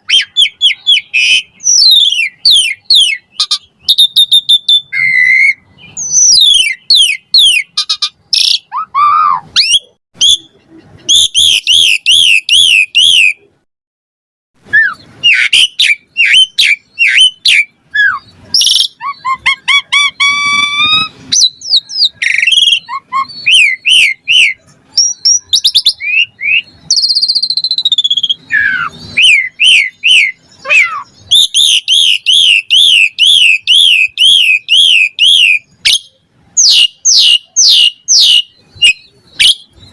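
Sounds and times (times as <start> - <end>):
starling singing: 0.0 - 13.5, 14.6 - 39.9.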